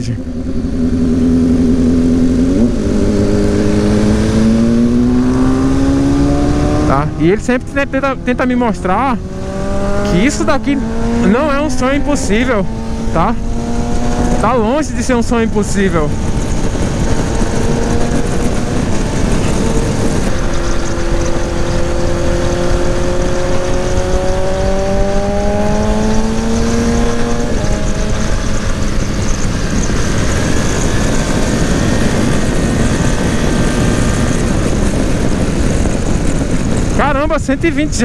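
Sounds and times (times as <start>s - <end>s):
heavy wind rush: 0.0s - 38.0s
motorcycle engine accelerating: 0.0s - 38.0s.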